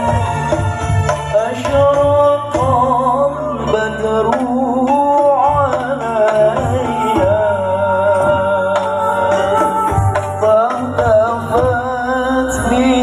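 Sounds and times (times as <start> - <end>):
low accompaniment: 0.0 - 13.0.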